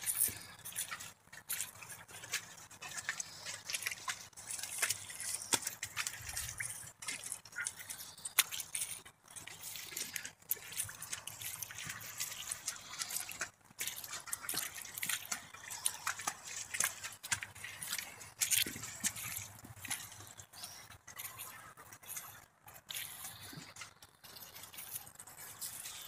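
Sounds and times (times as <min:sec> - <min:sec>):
hooves squelching in mud: 0:00.0 - 0:26.0.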